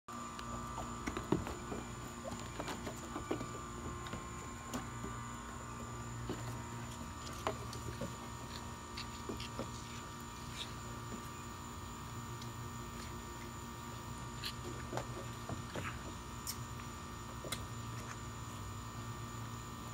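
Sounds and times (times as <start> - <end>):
faint steady hum: 0.1 - 19.9.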